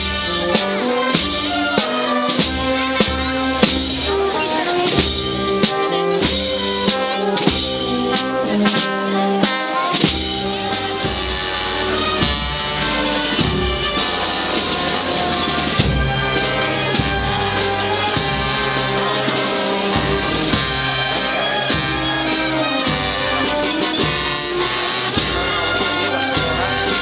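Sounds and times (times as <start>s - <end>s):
brass chords: 0.0s - 27.0s
drum beat: 0.0s - 27.0s.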